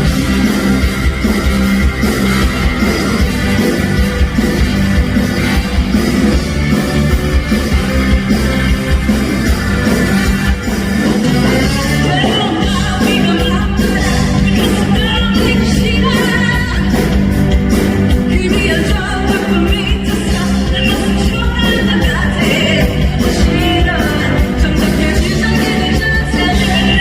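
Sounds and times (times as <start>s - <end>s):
drums and bass: 0.0s - 27.0s
person singing pop rock song: 0.0s - 27.0s.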